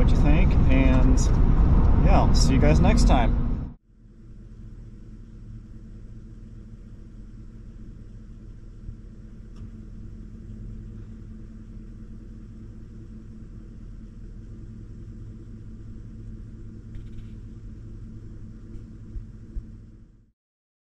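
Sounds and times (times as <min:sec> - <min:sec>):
steady low rumble: 0:00.0 - 0:20.3.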